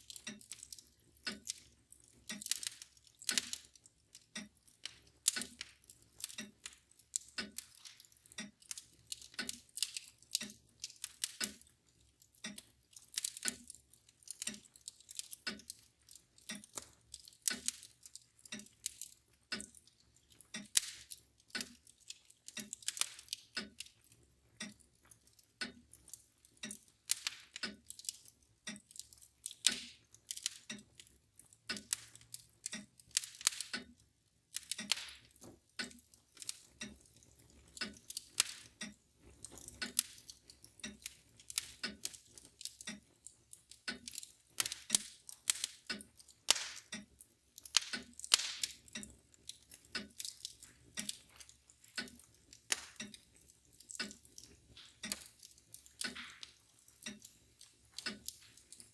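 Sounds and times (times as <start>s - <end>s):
clock ticking: 0.0s - 58.9s
wood fire crackling: 0.0s - 58.9s.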